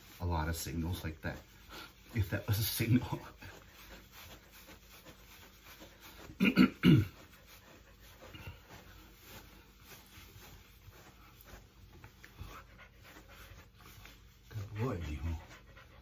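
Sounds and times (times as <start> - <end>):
brush rasping through fur: 0.0 - 16.0.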